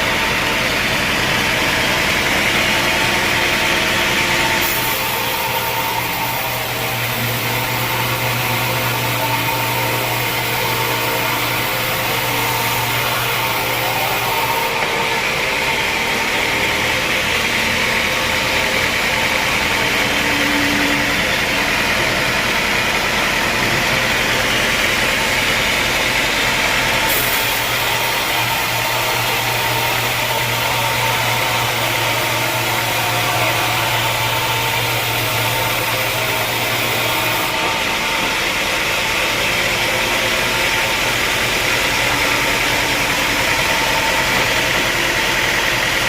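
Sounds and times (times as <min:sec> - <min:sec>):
sawmill machinery running: 0:00.0 - 0:46.0.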